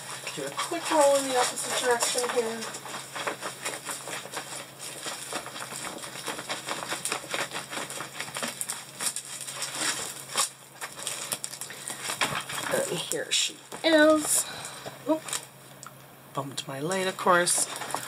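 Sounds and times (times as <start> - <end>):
plastic film crinkling: 0.0 - 15.6, 16.8 - 18.0.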